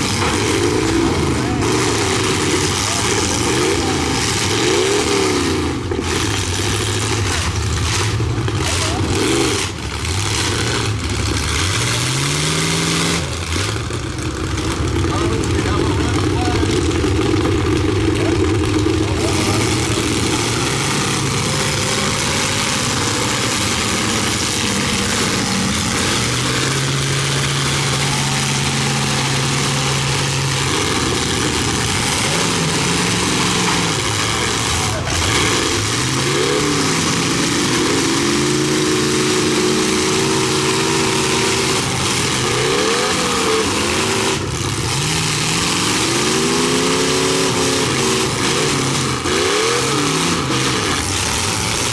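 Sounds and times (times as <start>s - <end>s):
car engines revving hard: 0.0s - 51.9s.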